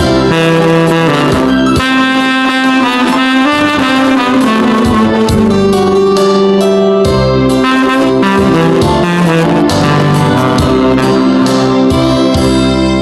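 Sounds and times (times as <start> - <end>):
backing track with drums: 0.0 - 13.0
tenor saxophone melody: 0.0 - 13.0.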